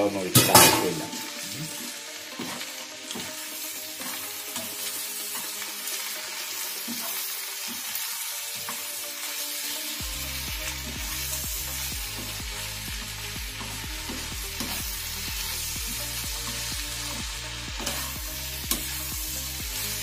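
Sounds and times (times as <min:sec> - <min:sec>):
background music: 0:00.0 - 0:20.0
vegetables sizzling in a wok: 0:00.0 - 0:20.0
spatula scraping a wok: 0:01.2 - 0:20.0.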